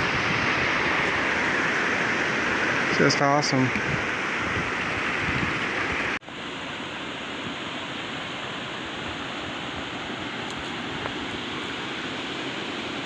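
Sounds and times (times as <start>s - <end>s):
fast-flowing creek rushing: 0.0s - 13.0s.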